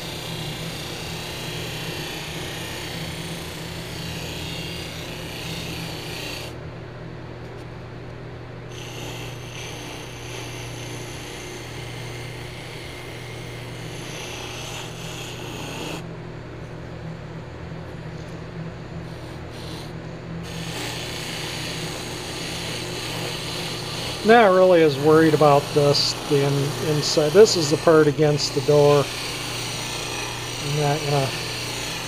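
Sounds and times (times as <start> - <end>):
metal strip rasping on buffing wheel: 0.0 - 6.5, 8.7 - 16.0, 19.1 - 32.0
polishing motor humming: 0.0 - 6.6, 8.7 - 16.0, 19.0 - 32.0.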